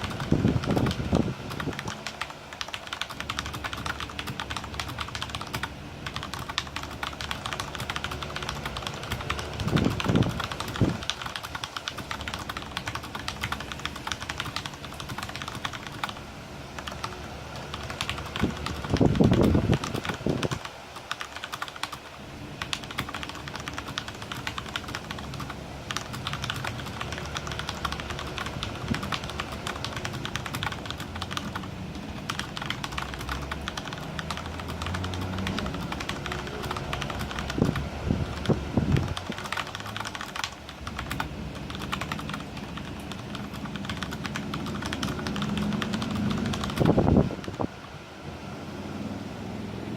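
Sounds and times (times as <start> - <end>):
fast typing on mechanical keyboard: 0.0 - 47.8.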